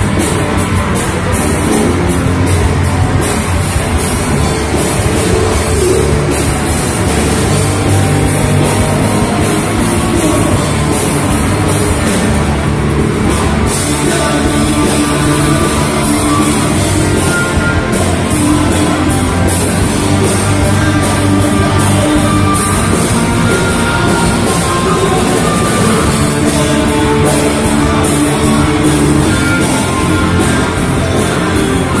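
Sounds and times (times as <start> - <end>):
drum kit: 0.0 - 32.0
electric guitar: 0.0 - 32.0
rock band playing: 0.0 - 32.0.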